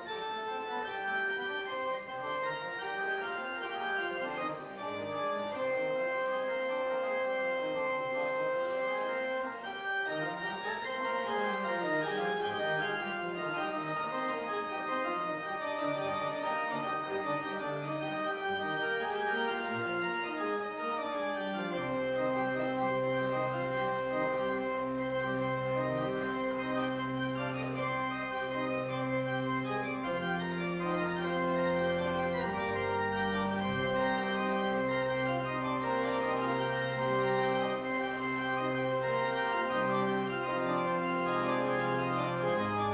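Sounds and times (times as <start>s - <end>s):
church organ chords: 0.0s - 42.9s
deep bass organ notes: 0.8s - 42.9s.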